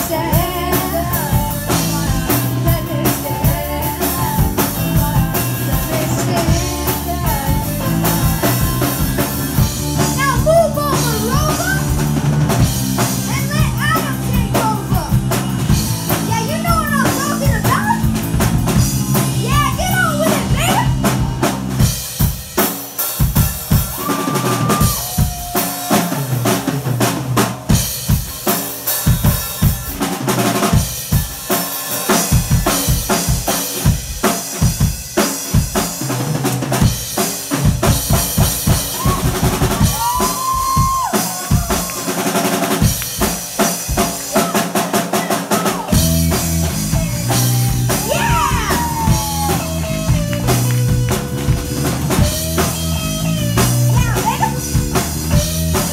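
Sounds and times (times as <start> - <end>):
busy drum kit: 0.0 - 55.9
live rock band playing: 0.0 - 55.9.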